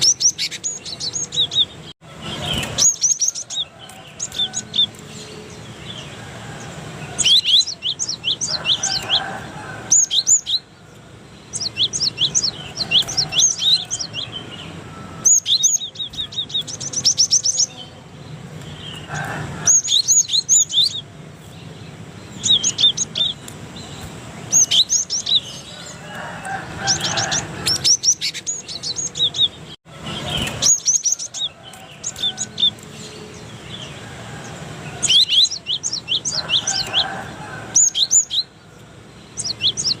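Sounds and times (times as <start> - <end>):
bird chirps and trills: 0.0 - 40.0.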